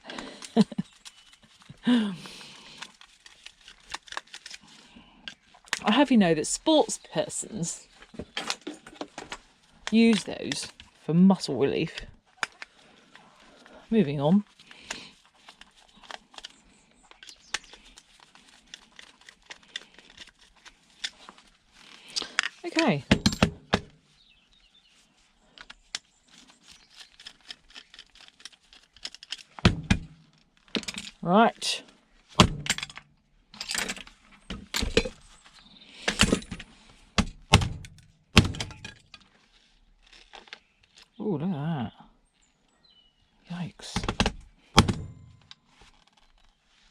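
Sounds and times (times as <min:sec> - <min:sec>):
small parts clicking and rustling: 0:00.0 - 0:06.7, 0:07.8 - 0:11.1, 0:11.8 - 0:13.8, 0:14.4 - 0:24.0, 0:25.2 - 0:31.3, 0:31.9 - 0:41.2, 0:43.8 - 0:46.9.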